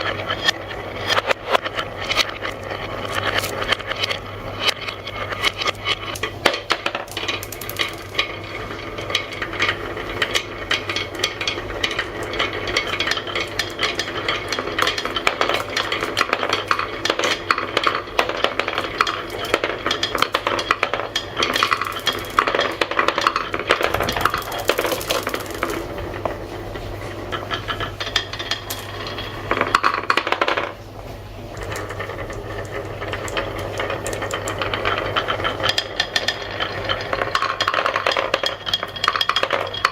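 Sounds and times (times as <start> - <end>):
marbles clattering down wooden run: 0.0 - 26.3, 27.4 - 30.8, 31.5 - 39.9
steady low hum: 0.0 - 39.9.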